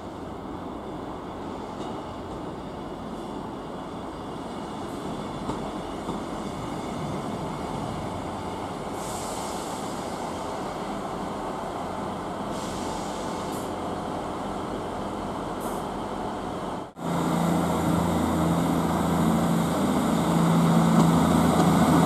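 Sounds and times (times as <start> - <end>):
diesel train engine: 0.0 - 22.0.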